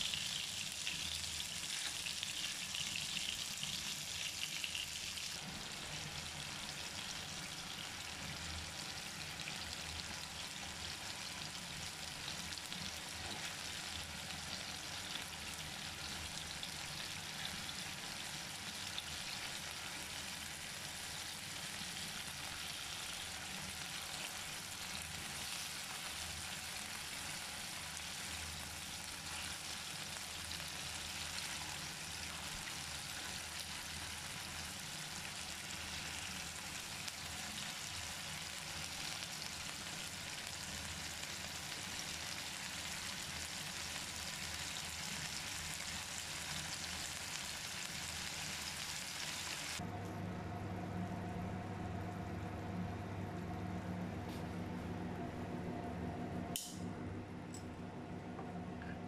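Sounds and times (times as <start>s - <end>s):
chicken frying in oil: 0.0s - 49.8s.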